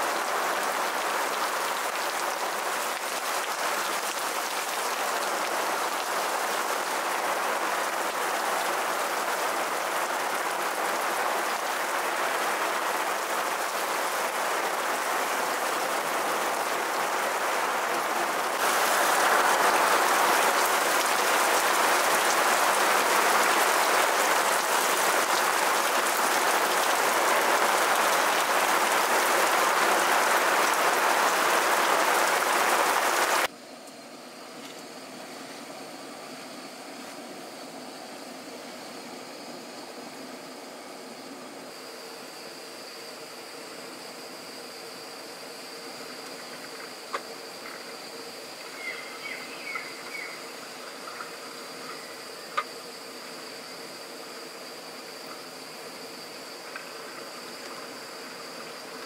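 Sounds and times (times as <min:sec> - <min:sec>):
heavy rain on a tent: 0:00.0 - 0:33.5, 0:43.0 - 0:59.0.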